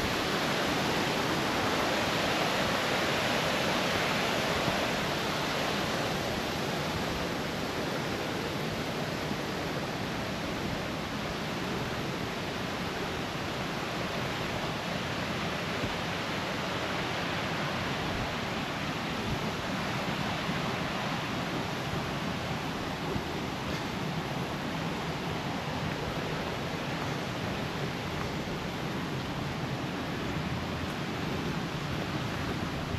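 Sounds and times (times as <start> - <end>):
creek water rushing: 0.0 - 32.9.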